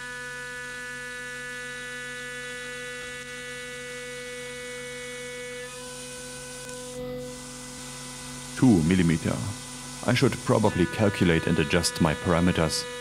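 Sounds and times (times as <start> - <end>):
spindle milling aluminium hum: 0.0 - 13.0.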